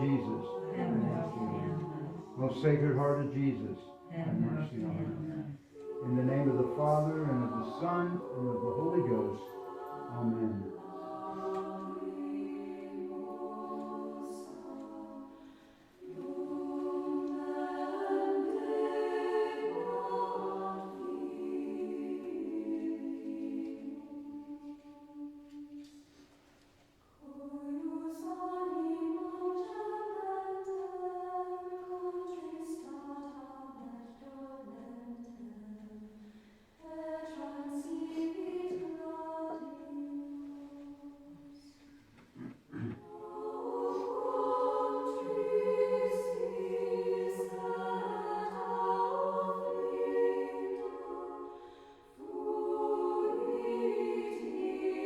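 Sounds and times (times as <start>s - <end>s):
choir singing a slow hymn: 0.0s - 55.0s.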